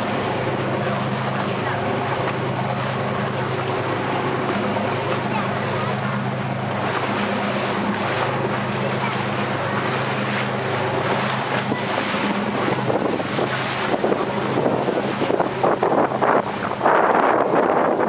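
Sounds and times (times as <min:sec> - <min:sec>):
boat engine humming: 0:00.0 - 0:18.0
water splashing: 0:00.0 - 0:18.0
wind buffeting microphone: 0:00.0 - 0:18.0.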